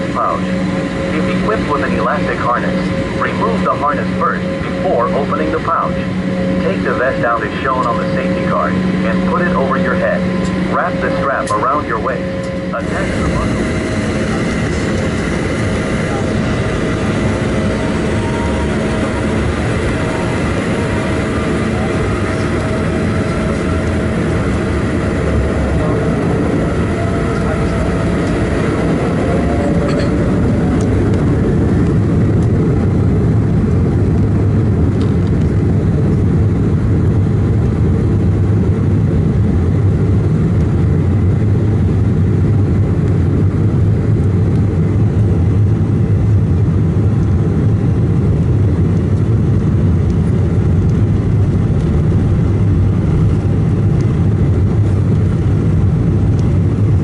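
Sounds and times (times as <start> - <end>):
jet engines whining and roaring: 0.0 - 57.0.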